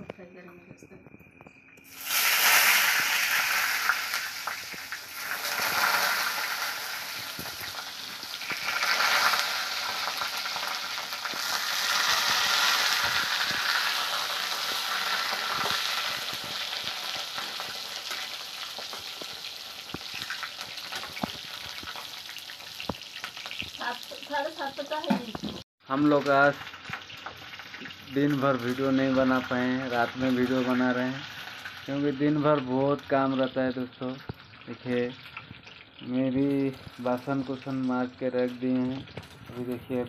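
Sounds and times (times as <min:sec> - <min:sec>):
eggplant sizzling in hot oil: 0:01.8 - 0:40.0.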